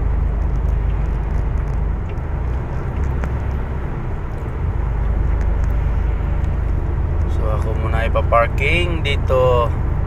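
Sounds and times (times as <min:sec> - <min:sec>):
truck engine and tyres rumbling: 0:00.0 - 0:10.0.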